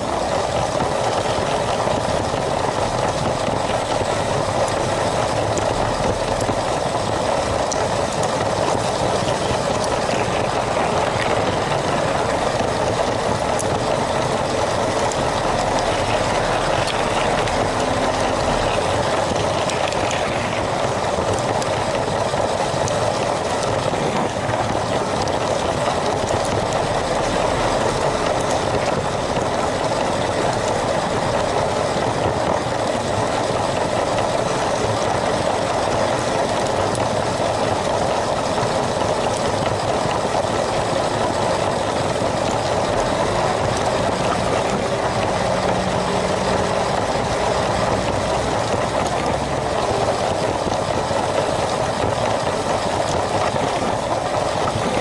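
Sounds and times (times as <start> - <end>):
toy train motor and wheels rolling: 0.0 - 55.0.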